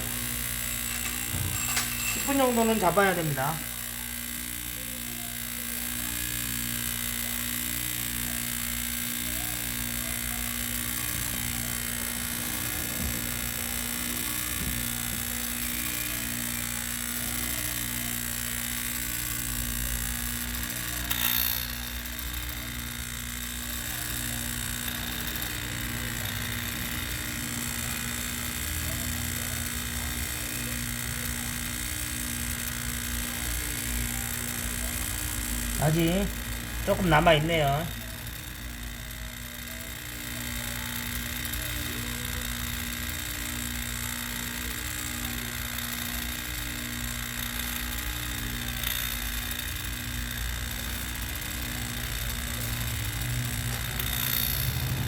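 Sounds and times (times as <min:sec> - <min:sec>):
faint regular pulsing: 0:00.0 - 0:55.0
vacuum pump running: 0:00.0 - 0:55.0.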